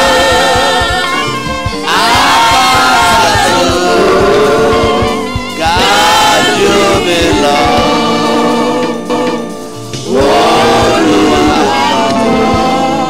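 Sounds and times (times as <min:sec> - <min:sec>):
gospel singing with instruments: 0:00.0 - 0:13.0.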